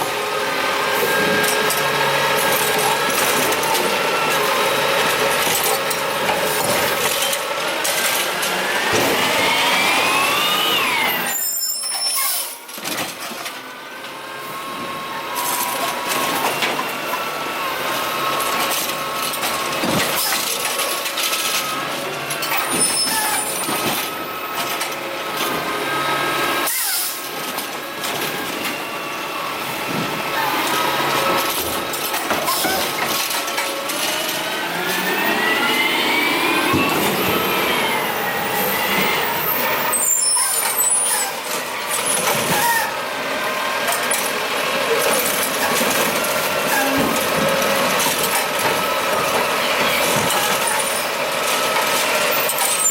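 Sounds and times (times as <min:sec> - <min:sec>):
garbage truck engine and hydraulics whine: 0:00.0 - 0:52.9.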